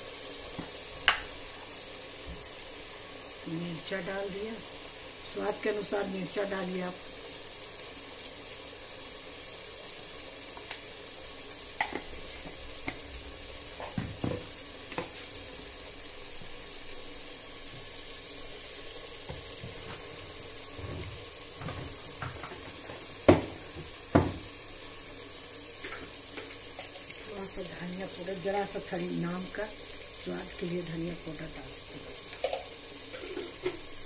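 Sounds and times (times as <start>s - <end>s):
spices sizzling in oil: 0.0s - 34.0s.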